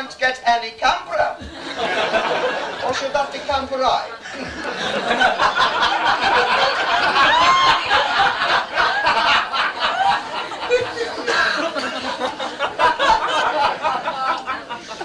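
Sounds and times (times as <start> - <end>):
audience laughter: 1.4 - 15.0.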